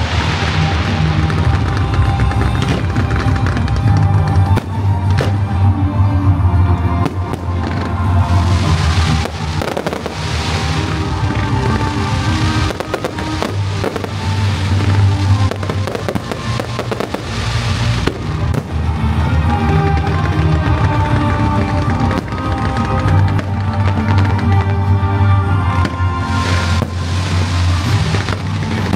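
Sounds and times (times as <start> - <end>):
fireworks crackling: 0.0 - 5.7, 7.0 - 28.9.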